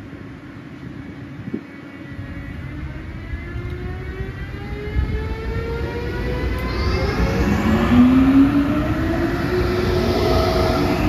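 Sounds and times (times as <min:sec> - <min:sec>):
train rumble: 0:00.0 - 0:11.0
electric locomotive motor whine: 0:00.1 - 0:11.0.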